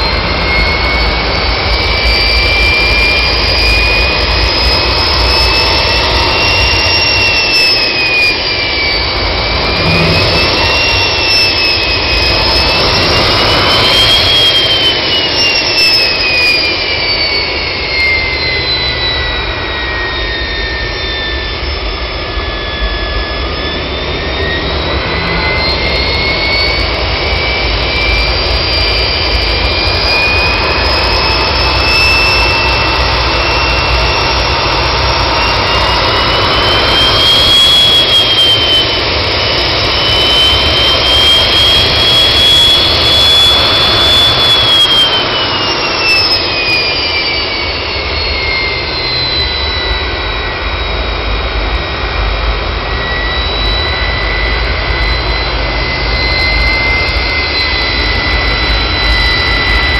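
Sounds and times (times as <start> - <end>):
jet engine roaring with whine: 0.0 - 59.9.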